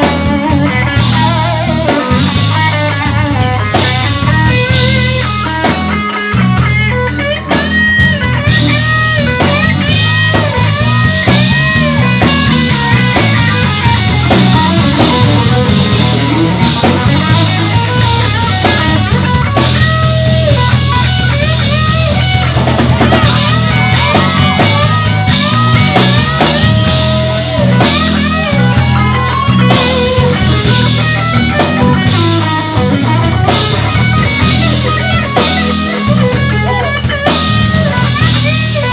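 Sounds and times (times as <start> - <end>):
drum kit: 0.0 - 38.9
electric bass: 0.0 - 38.9
electric guitar lead: 0.0 - 38.9.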